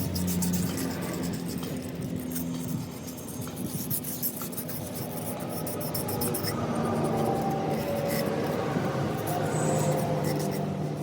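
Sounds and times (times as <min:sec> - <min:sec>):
scratching and rubbing by hand: 0:00.0 - 0:11.0.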